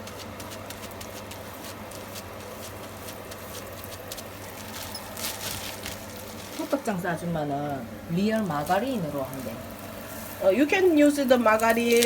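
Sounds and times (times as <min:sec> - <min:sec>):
dough sizzling in hot oil: 0:00.0 - 0:12.0
low steady hum: 0:00.0 - 0:12.0.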